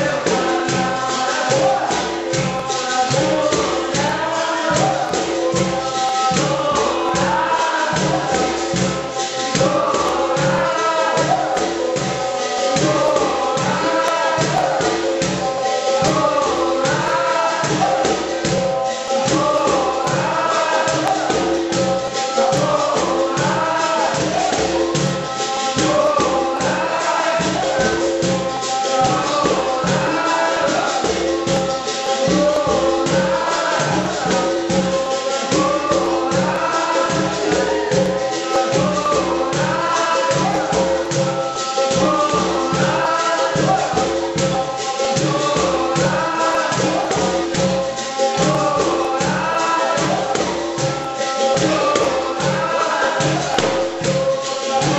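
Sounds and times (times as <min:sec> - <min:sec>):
berimbaus and pandeiro rhythm: 0:00.0 - 0:54.9
group call-and-response singing: 0:00.0 - 0:54.9.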